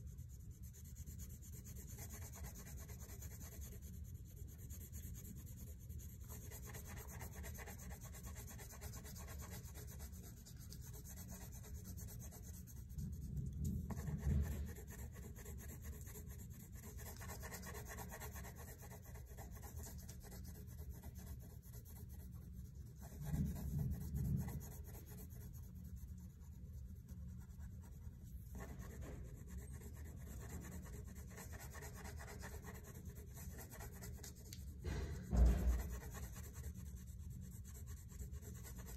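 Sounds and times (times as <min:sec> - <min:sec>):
crayon scratching on paper: 0:00.0 - 0:38.9.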